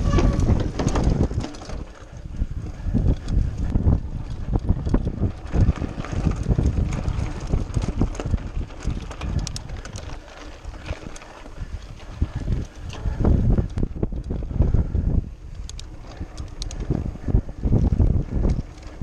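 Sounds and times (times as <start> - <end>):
bike rattling on gravel trail: 0.0 - 19.0
wind buffeting microphone: 0.0 - 19.0.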